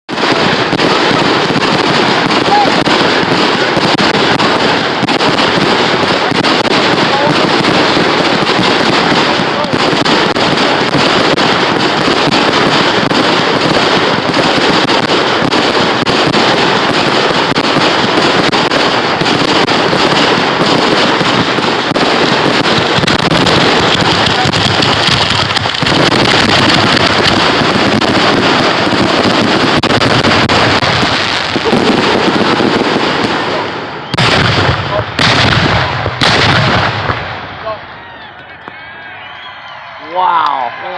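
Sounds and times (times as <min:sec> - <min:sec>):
fireworks crackling: 0:00.0 - 0:40.8.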